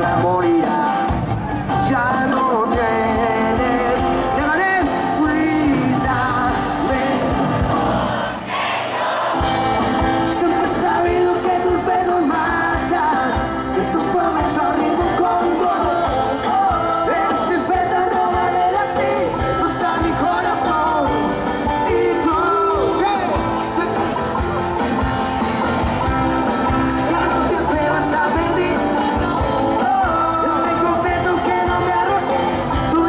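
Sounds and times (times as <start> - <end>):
person singing: 0.0 - 8.0, 9.7 - 24.8, 26.3 - 33.0
bass guitar: 0.0 - 8.2, 9.4 - 33.0
electric guitars: 0.0 - 8.3, 9.4 - 33.0
drums: 0.0 - 33.0.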